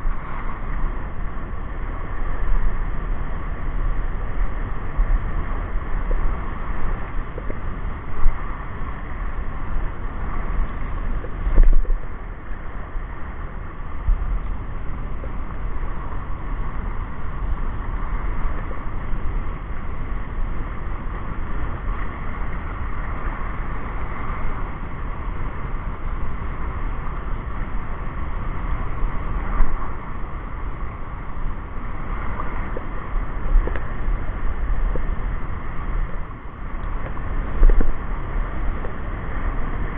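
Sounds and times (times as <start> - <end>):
water and small waves: 0.0 - 39.9
wind buffeting microphone: 0.0 - 39.9.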